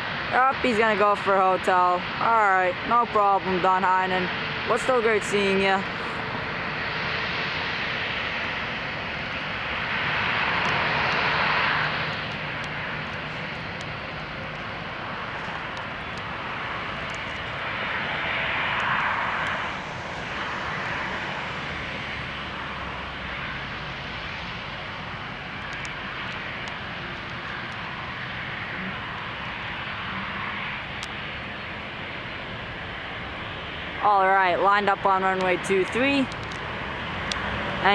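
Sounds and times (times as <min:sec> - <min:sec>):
jet engines running: 0:00.0 - 0:37.9.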